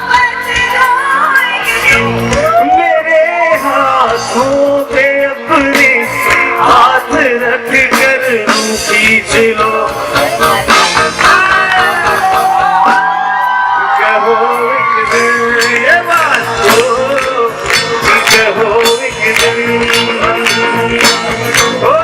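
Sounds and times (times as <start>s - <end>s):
live pop-rock band: 0.0s - 22.0s
drum beat: 1.9s - 22.0s.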